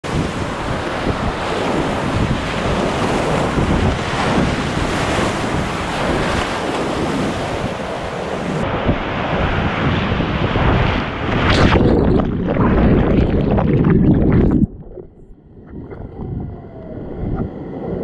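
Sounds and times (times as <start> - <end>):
wind noise on microphone: 0.0 - 18.0.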